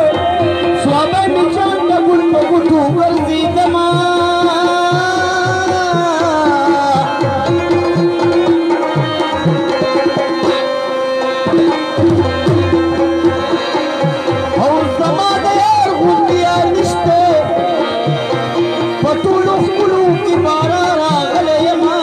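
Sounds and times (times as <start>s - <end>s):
hand drum rhythm: 0.0s - 22.0s
wavering melody line: 0.0s - 22.0s.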